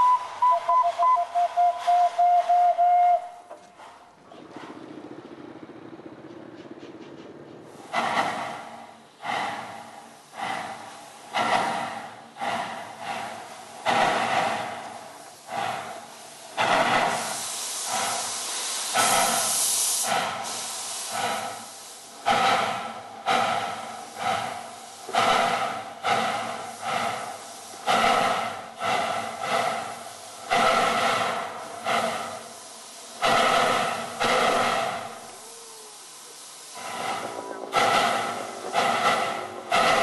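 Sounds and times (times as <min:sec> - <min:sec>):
steam hissing: 0:00.0 - 0:40.0
steam locomotive chuffing: 0:00.0 - 0:40.0.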